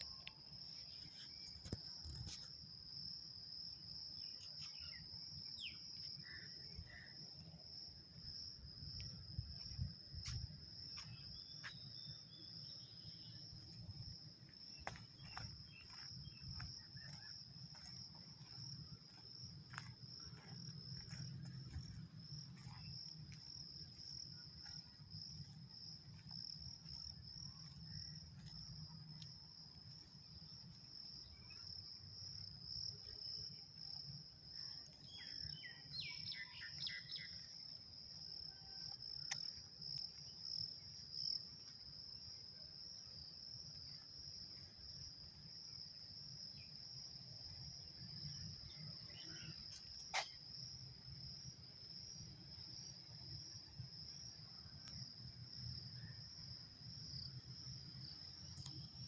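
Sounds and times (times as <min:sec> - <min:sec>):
insects trilling: 0:09.1 - 0:59.0.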